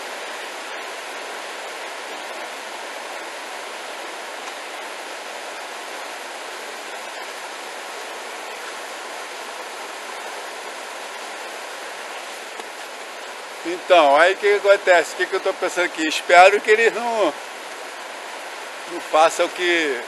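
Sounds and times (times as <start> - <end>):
stream rushing over waterfall: 0.0 - 20.0.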